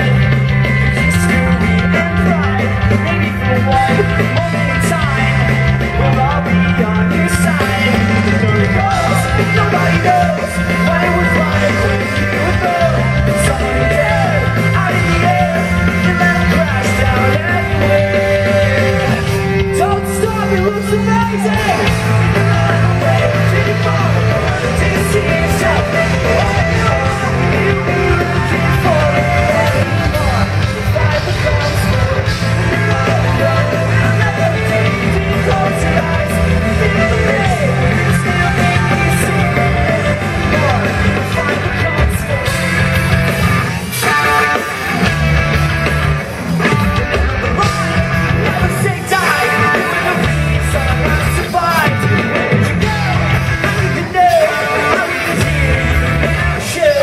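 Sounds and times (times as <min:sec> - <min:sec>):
bass guitar: 0:00.0 - 0:57.0
distorted electric guitars: 0:00.0 - 0:57.0
drums: 0:00.0 - 0:57.0
lead singing: 0:00.0 - 0:57.0
live crowd: 0:00.0 - 0:57.0.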